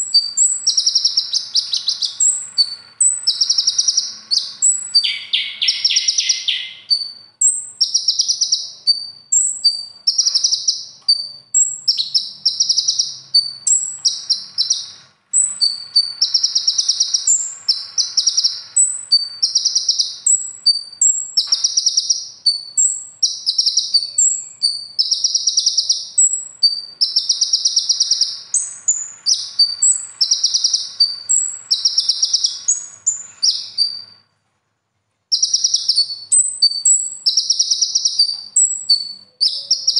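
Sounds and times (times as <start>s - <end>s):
sunbird singing buzzy trills: 0.0s - 34.2s, 35.3s - 39.9s.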